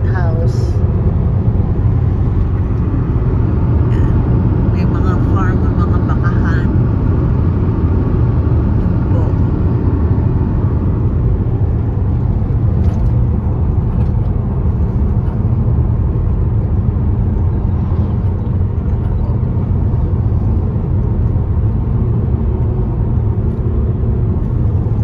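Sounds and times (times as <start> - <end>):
car driving on road: 0.0 - 25.0.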